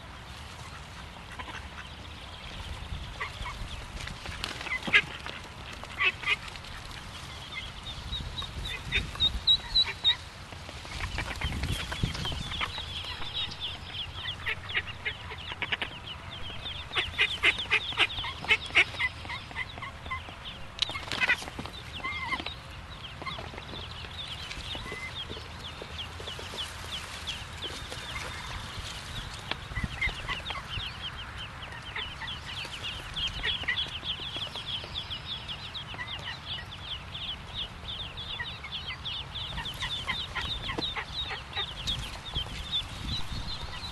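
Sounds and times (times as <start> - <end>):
ducklings peeping: 0.0 - 43.9.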